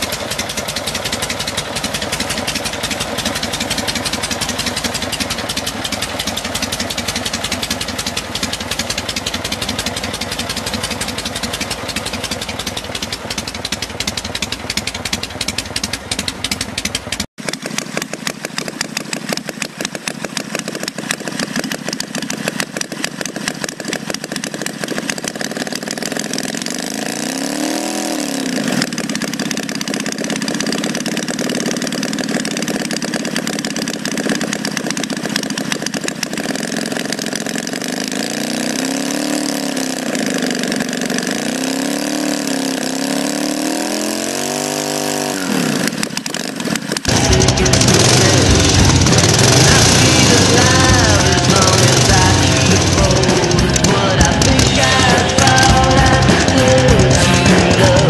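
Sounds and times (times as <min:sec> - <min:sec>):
model engine revving: 0:00.0 - 0:58.0
motorcycle engine running: 0:00.0 - 0:58.0.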